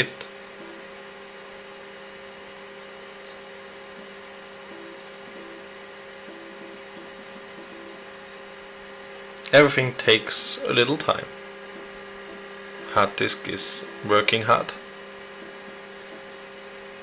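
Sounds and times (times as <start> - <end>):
computer humming: 0.0 - 17.0
faint hard disk tones: 0.0 - 17.0.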